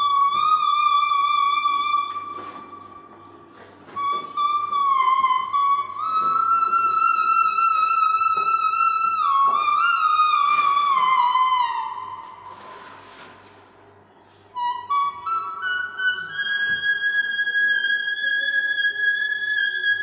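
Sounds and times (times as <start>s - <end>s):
leaf whistle melody: 0.0s - 13.0s, 14.1s - 20.0s.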